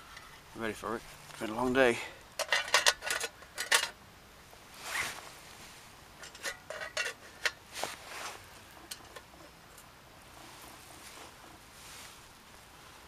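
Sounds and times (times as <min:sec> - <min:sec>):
camping gear scraping and clicking: 0:00.0 - 0:04.0, 0:04.7 - 0:12.2.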